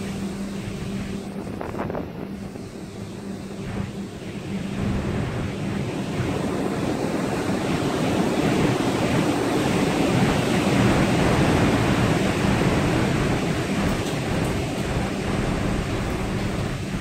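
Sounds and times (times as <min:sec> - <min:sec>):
heavy seas rushing: 0:00.0 - 0:17.0
storm wind: 0:00.0 - 0:17.0.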